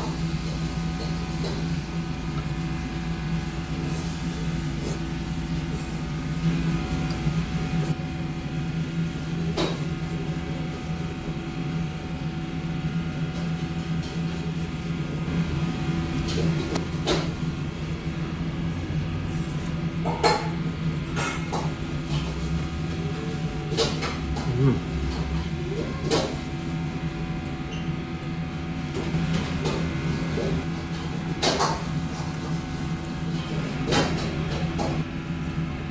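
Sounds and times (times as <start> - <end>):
low hum of fans: 0.0 - 35.9.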